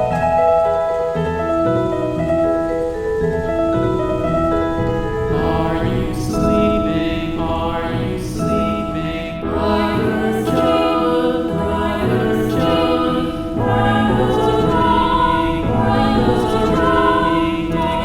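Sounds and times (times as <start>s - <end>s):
calm music with held chords: 0.0s - 18.0s
choir-like voices: 0.0s - 18.0s.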